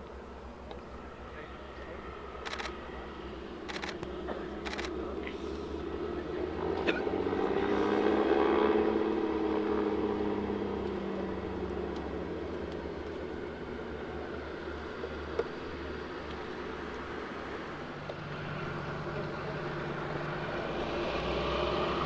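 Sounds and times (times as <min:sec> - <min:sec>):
aircraft piston engines running: 0:00.0 - 0:22.0.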